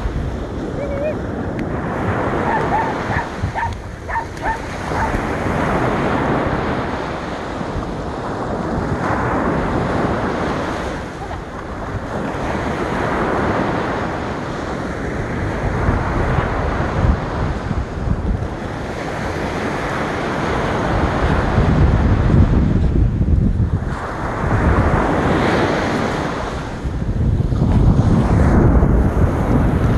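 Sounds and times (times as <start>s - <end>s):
waves washing on shore: 0.0s - 29.9s
wind buffeting microphone: 0.0s - 29.9s.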